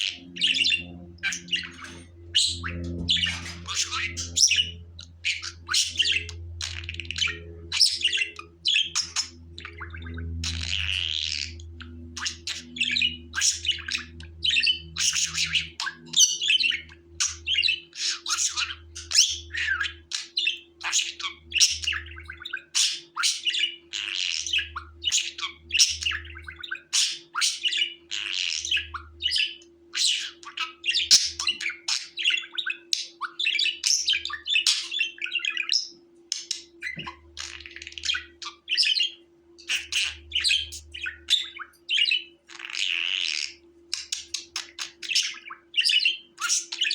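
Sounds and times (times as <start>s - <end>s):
budgerigars chattering: 0.0s - 46.9s.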